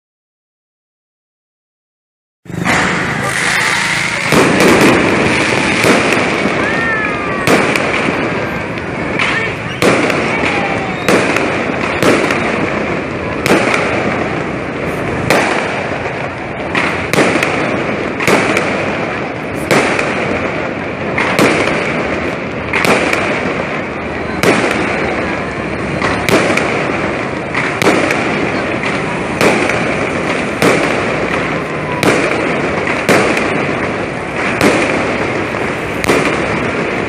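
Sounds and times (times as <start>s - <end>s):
fireworks bangs: 2.5s - 37.0s
fireworks hiss: 2.5s - 37.0s.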